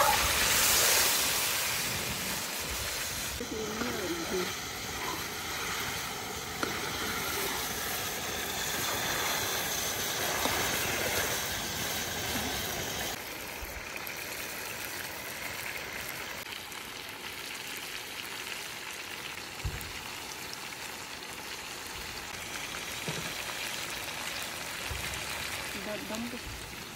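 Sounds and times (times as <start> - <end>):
chicken sizzling in hot oil: 0.0 - 26.9.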